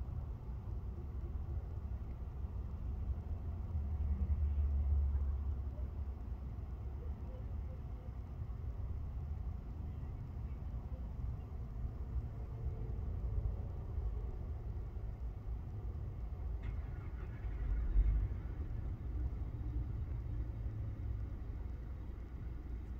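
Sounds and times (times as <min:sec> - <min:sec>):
street traffic rumble: 0:00.0 - 0:22.9.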